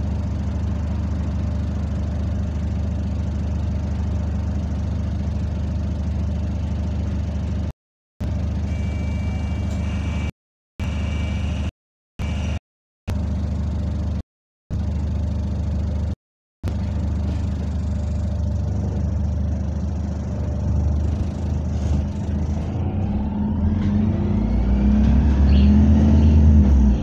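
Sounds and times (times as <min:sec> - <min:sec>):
bus low drone: 0:00.0 - 0:27.0.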